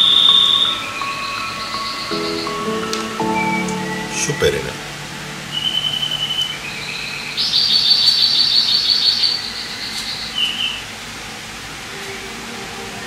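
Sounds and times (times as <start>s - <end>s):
bird singing: 0.0s - 10.9s
steady low hiss: 0.0s - 13.0s.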